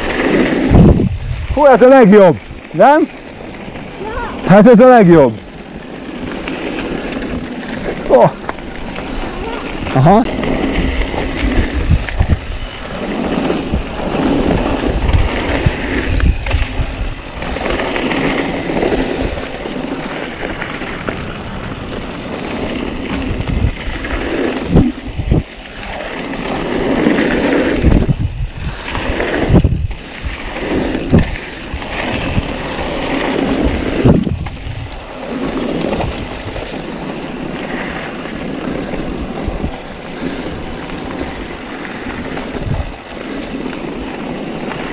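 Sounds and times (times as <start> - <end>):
wind on microphone: 0.0 - 2.8, 3.4 - 44.9
bike rattling: 0.0 - 44.9
tyres crunching over gravel: 1.6 - 44.9.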